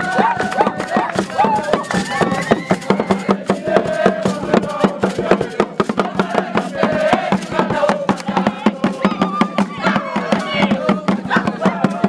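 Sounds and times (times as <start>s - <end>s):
fast percussive beat: 0.0s - 12.0s
voices singing together: 0.0s - 12.0s.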